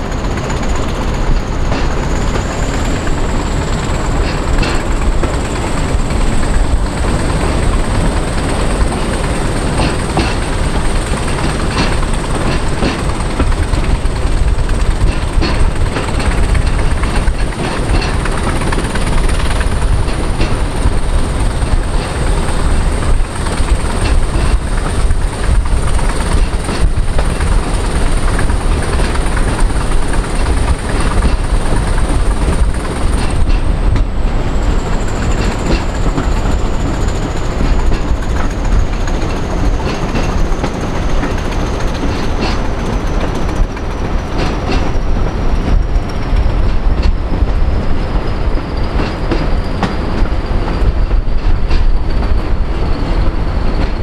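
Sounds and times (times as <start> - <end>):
clickety-clack of rail joints: 0.0 - 54.0.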